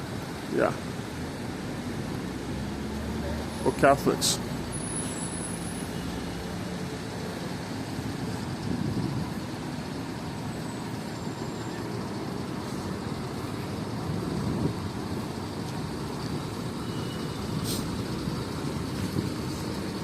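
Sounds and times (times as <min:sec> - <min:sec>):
passing cars: 0:00.0 - 0:20.0.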